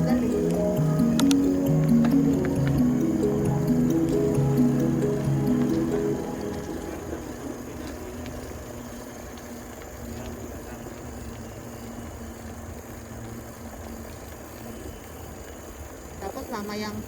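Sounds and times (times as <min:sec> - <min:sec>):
faint steady hum and hiss: 0:00.0 - 0:17.0
traffic rumble: 0:00.0 - 0:17.0.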